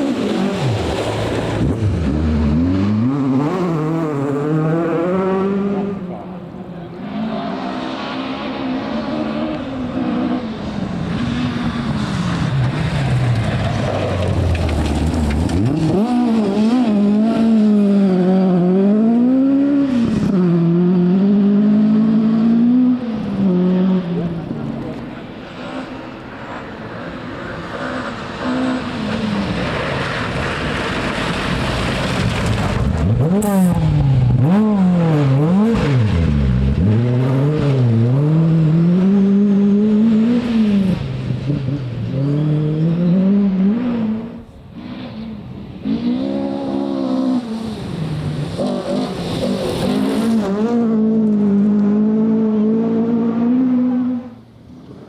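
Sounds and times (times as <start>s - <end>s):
rally car engine revving: 0.0s - 54.4s.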